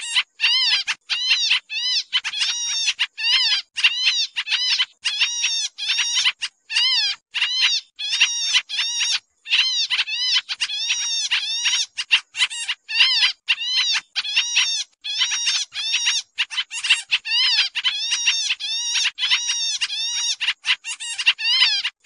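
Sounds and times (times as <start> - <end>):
bird chattering calls: 0.0 - 22.0.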